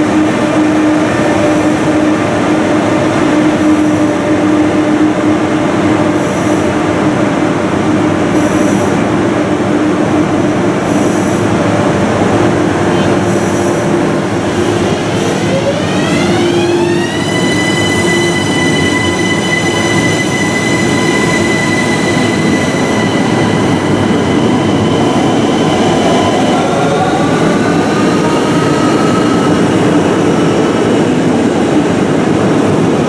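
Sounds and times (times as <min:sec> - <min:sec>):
electric locomotive rumble and hum: 0:00.0 - 0:33.0.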